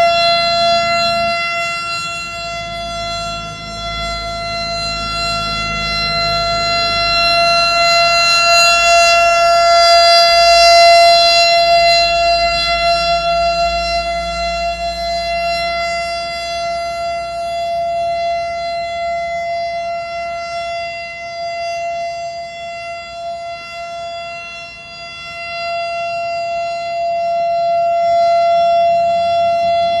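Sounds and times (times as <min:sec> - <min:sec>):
siren steady note: 0:00.0 - 0:30.0.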